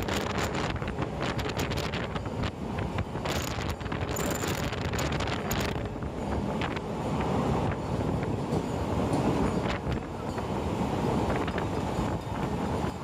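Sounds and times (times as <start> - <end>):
moving train rumble: 0.0 - 13.0
wind buffeting microphone: 0.0 - 13.0.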